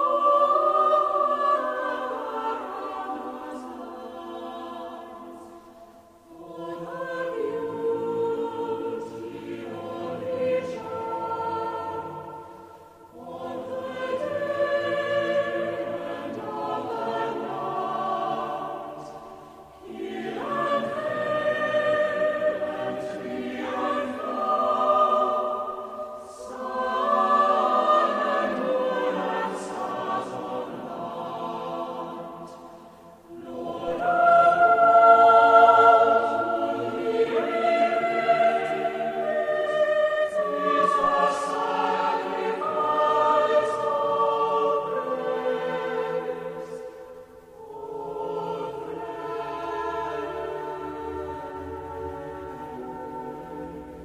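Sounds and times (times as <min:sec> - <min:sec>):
choir singing gospel music: 0:00.0 - 0:54.0.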